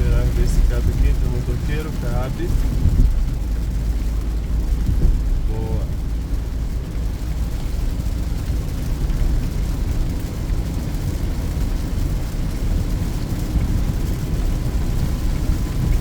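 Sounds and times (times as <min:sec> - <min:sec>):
car engine drone: 0:00.0 - 0:16.0
road rumble: 0:00.0 - 0:16.0.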